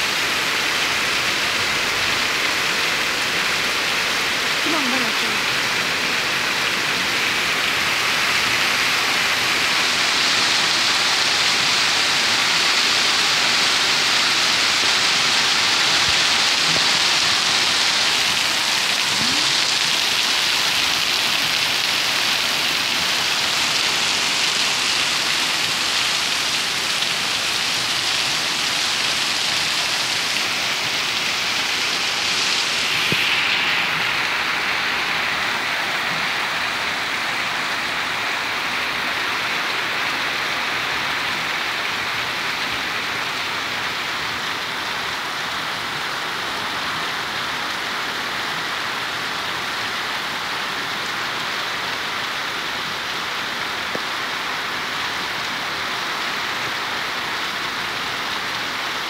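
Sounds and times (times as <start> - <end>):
steady rain on street: 0.0 - 59.0.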